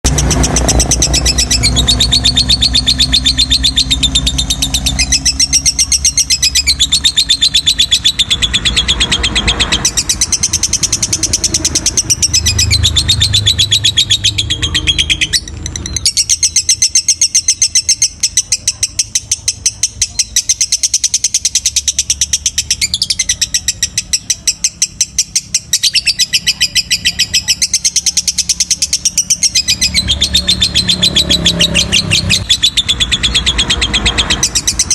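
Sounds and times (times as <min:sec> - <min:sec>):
bird chattering trill: 0:00.0 - 0:34.9.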